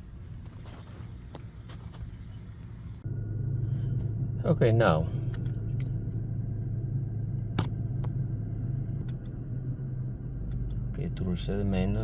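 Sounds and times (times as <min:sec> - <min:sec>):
car engine idling: 0:02.4 - 0:12.0.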